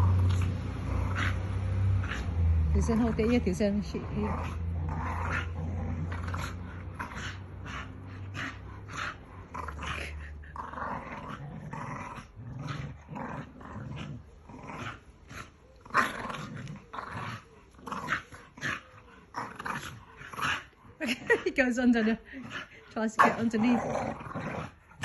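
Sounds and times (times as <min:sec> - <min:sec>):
dogs growling: 0:00.0 - 0:25.0
dogs snarling and yapping: 0:00.0 - 0:25.0.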